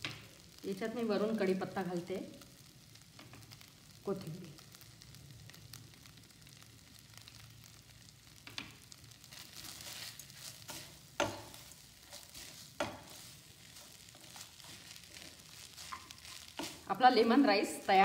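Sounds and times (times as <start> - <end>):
spatula stirring rice in pan: 0.0 - 4.0, 4.6 - 17.4
faint sizzle: 0.0 - 18.0.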